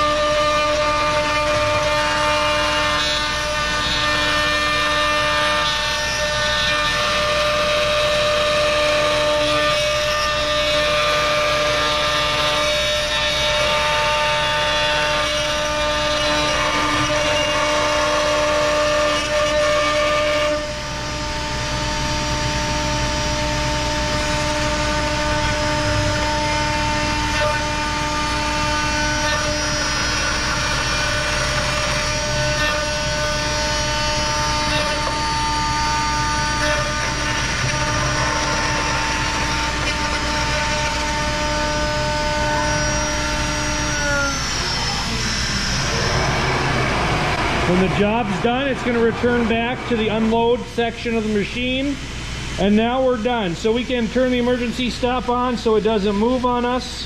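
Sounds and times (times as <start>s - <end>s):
bit cutting wood: 0.0s - 50.6s
router spindle whine: 0.0s - 57.0s.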